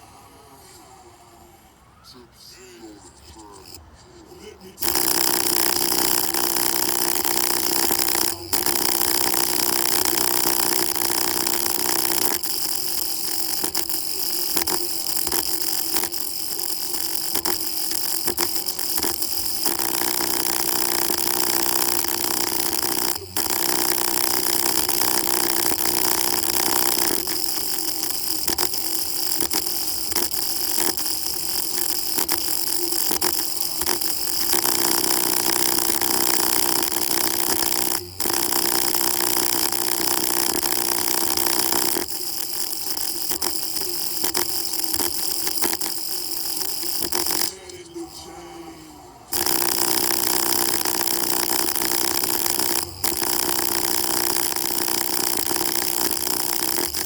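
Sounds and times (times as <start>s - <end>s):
loud machine noise with tones: 4.8s - 57.0s.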